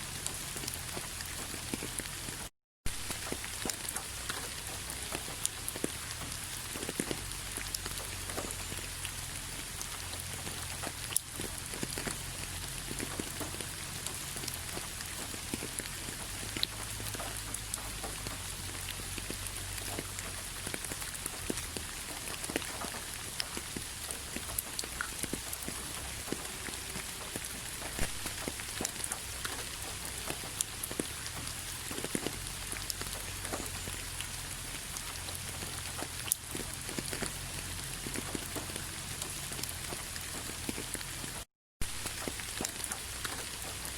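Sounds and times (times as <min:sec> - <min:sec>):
raindrops tapping on a surface: 0:00.0 - 0:43.9
steady rain patter: 0:00.0 - 0:43.9.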